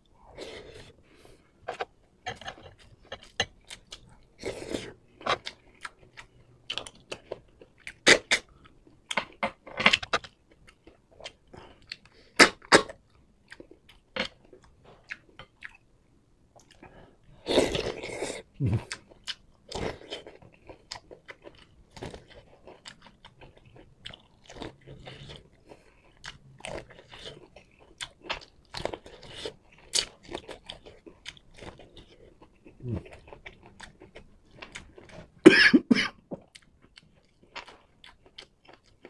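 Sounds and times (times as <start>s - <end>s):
man chewing food: 0.1s - 39.0s.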